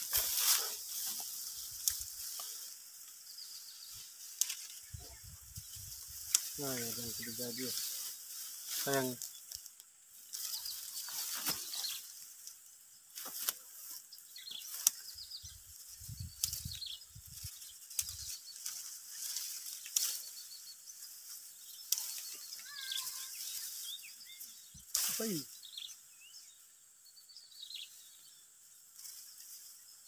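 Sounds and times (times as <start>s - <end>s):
rice stalks rustling: 0.0s - 26.1s, 28.6s - 30.0s.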